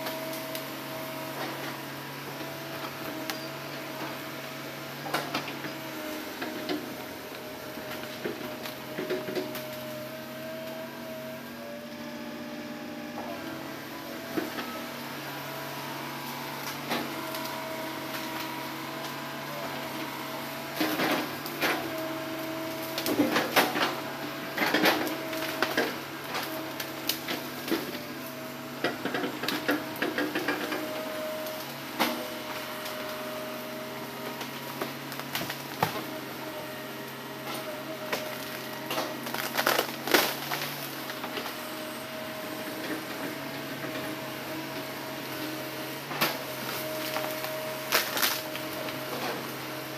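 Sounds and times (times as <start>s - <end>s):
excavator engine hum and whine: 0.0s - 49.9s.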